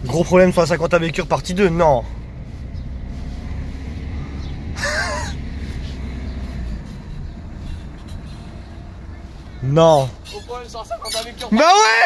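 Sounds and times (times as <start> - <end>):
car engine idling hum: 0.0 - 11.8.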